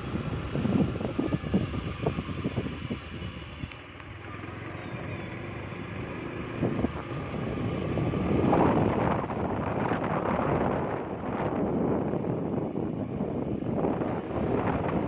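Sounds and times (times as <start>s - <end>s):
wind buffeting microphone: 0.0s - 3.8s, 5.0s - 15.0s
road noise from moving vehicle: 0.0s - 15.0s.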